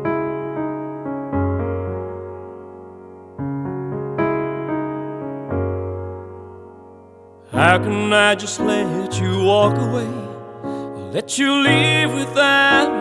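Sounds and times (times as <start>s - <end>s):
slow electric piano chords: 0.0s - 13.0s.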